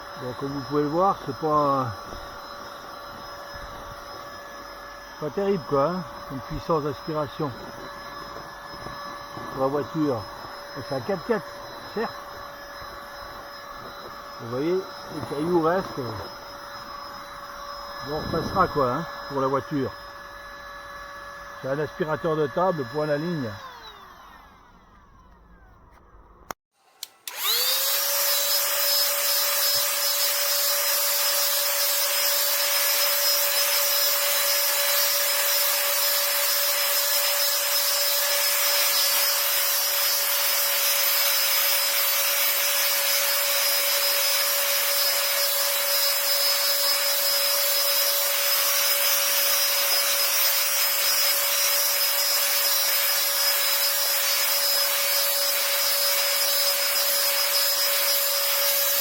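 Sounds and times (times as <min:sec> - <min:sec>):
handheld vacuum cleaner motor whine: 0:00.0 - 0:59.0.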